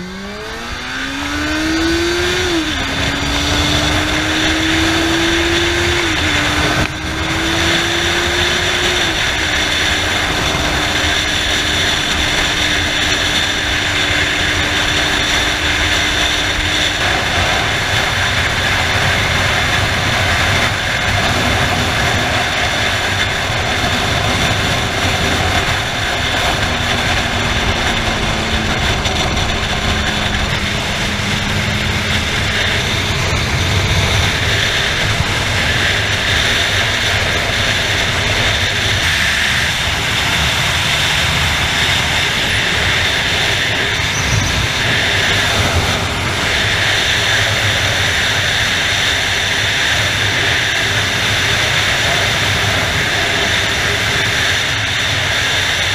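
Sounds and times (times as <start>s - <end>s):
motorcycle engine cruising: 0.0s - 55.9s
wind rush over microphone: 0.0s - 55.9s.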